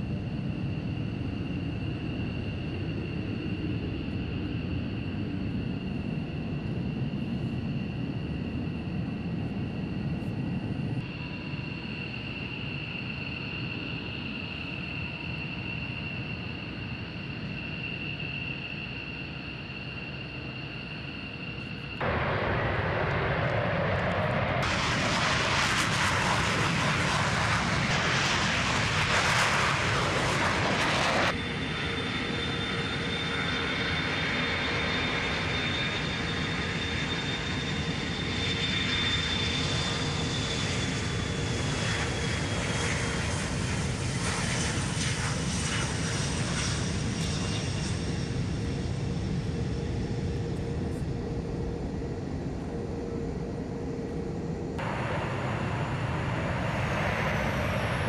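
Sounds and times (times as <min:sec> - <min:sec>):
jet engines rumbling with whine: 0:00.0 - 0:58.0
jet taking off: 0:00.0 - 0:58.0.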